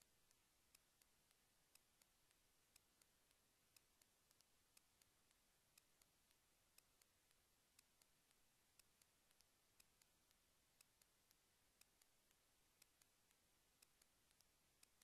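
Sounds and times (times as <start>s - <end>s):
faint regular ticking: 0.0s - 15.0s.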